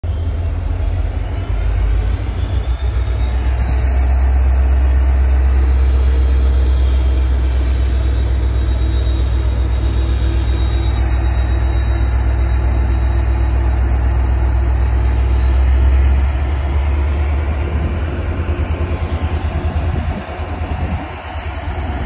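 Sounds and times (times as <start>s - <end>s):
electric locomotive rumbling: 0.0s - 22.0s
faint high whine: 0.1s - 22.0s.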